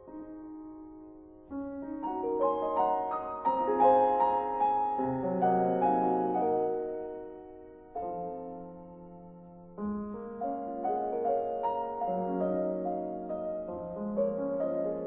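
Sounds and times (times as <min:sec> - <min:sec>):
instrumental music sustained notes: 0:00.0 - 0:15.0.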